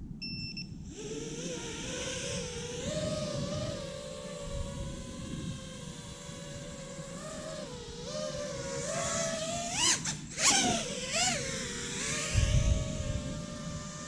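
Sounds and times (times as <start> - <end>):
drone motors whining: 0.7 - 14.0.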